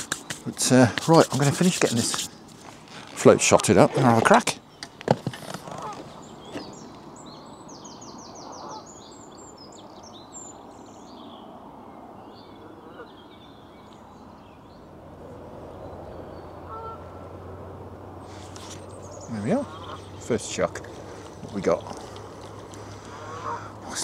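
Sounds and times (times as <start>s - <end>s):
small birds chirping: 0.0s - 17.3s, 18.0s - 24.0s.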